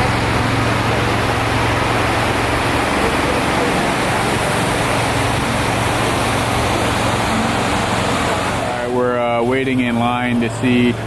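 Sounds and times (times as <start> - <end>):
faint voices: 0.0 - 11.0
low engine hum: 0.0 - 11.0
traffic: 0.0 - 11.0.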